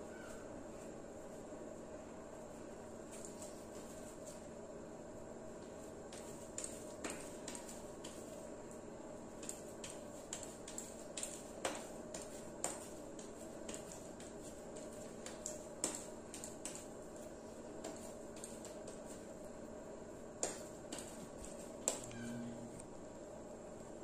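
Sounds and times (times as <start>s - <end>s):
faint room hum: 0.0s - 24.0s.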